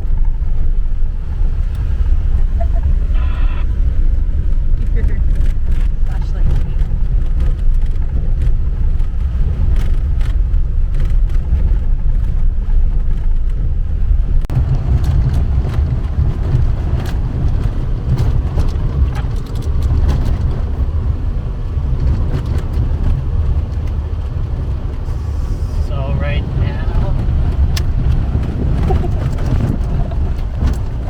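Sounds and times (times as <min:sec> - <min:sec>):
truck engine and tyre rumble: 0:00.0 - 0:31.0.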